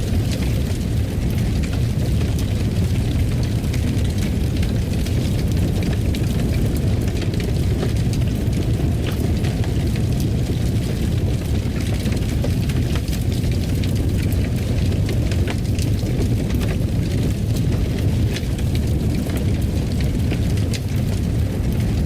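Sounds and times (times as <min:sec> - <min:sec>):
fire crackles and pops: 0:00.0 - 0:22.0
fire low rumble: 0:00.0 - 0:22.0.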